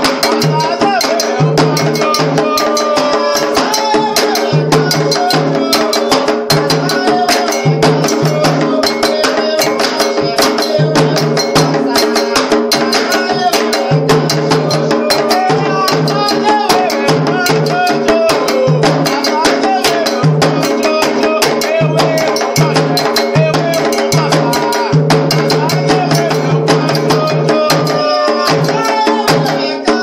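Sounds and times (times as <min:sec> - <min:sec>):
hand drums and percussion: 0:00.0 - 0:30.0
person singing: 0:00.0 - 0:30.0.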